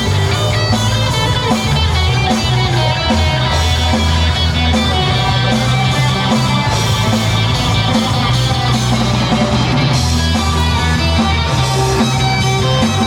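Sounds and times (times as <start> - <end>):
bass guitar: 0.0 - 13.0
drum kit: 0.0 - 13.0
electric guitar: 0.0 - 13.0.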